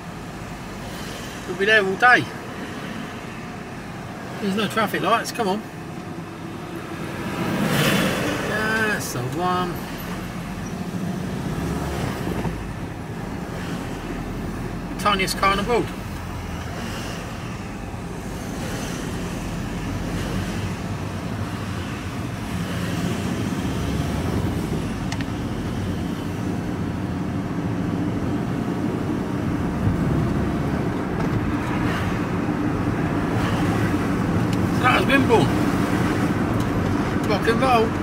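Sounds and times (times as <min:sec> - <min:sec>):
vehicle engine and tyre drone: 0:00.0 - 0:38.0.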